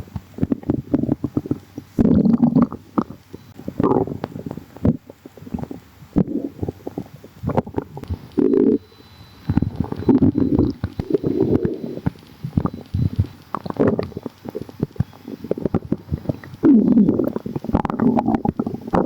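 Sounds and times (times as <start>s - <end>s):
stomach gurgling: 0.0s - 19.0s.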